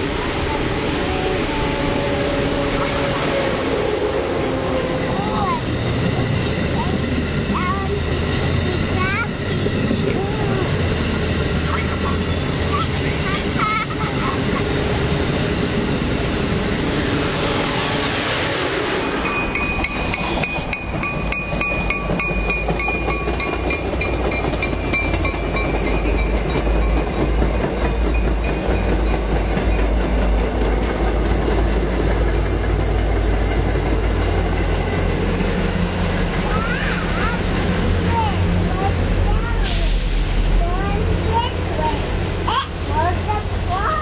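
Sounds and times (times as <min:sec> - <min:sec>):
commuter train rumbling past: 0:00.0 - 0:44.0
high-speed train rushing past: 0:00.0 - 0:44.0.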